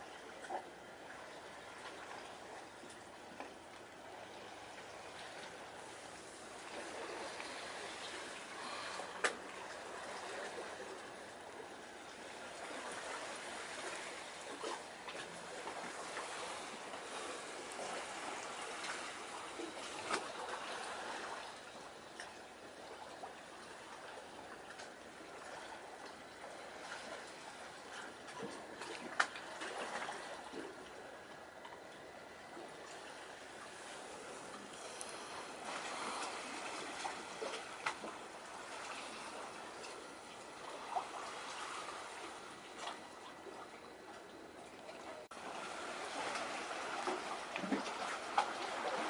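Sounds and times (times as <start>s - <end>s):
sea water lapping at shore: 0.0s - 49.0s.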